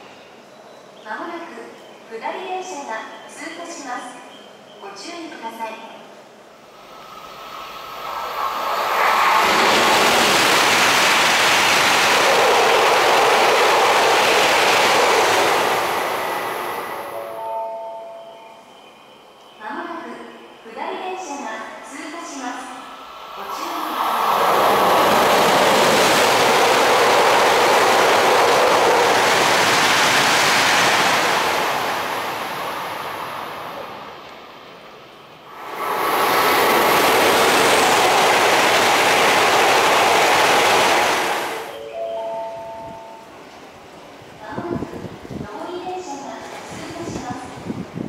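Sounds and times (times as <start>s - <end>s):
high-speed train passing: 0.0s - 0.6s, 5.5s - 48.0s.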